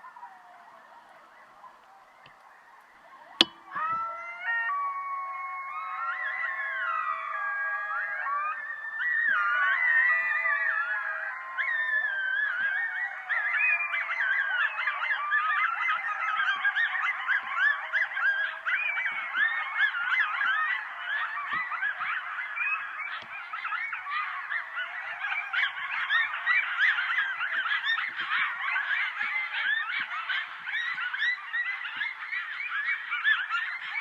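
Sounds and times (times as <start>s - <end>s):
coyotes yipping and howling: 0.0s - 34.0s.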